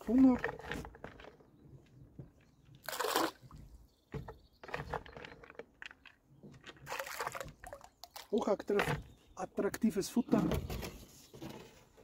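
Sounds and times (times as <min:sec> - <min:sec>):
water splashing and sloshing: 0:00.0 - 0:09.7.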